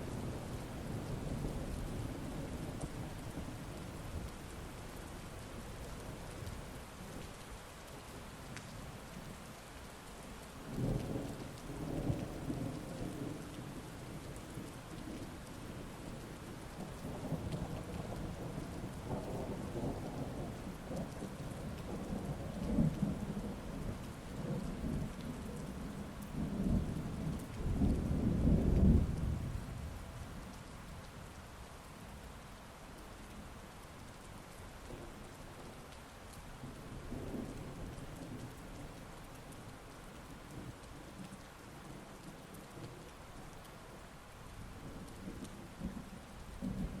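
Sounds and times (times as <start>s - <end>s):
heavy rain: 0.0s - 47.0s.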